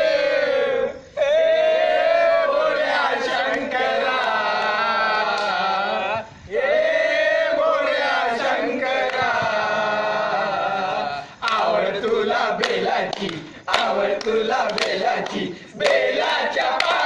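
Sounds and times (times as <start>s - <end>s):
men singing in unison: 0.0s - 17.0s.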